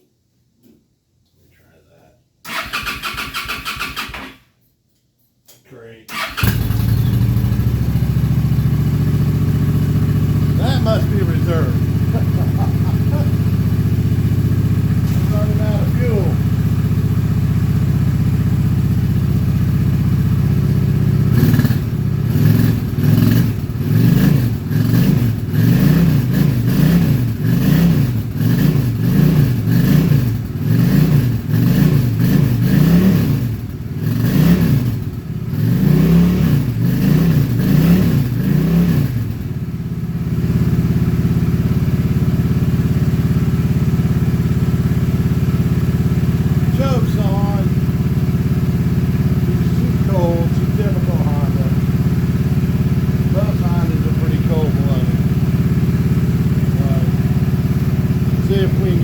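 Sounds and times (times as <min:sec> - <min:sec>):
motorcycle engine idling and revving: 0:02.5 - 0:04.4, 0:06.1 - 0:59.0.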